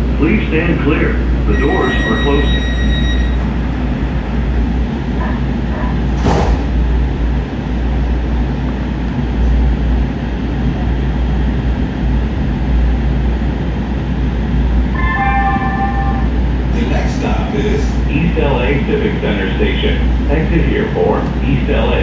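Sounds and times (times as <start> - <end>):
train car rumble and hum: 0.0 - 22.0.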